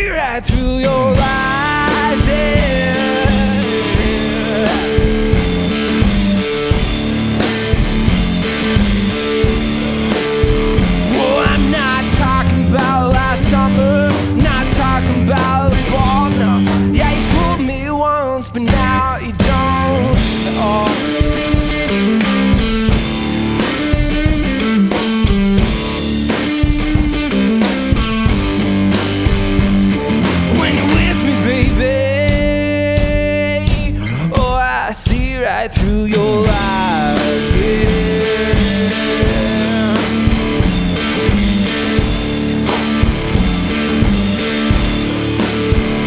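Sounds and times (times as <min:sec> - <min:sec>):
electric guitar riff: 0:00.0 - 0:34.6, 0:36.1 - 0:46.0
drum kit beating: 0:00.0 - 0:46.0.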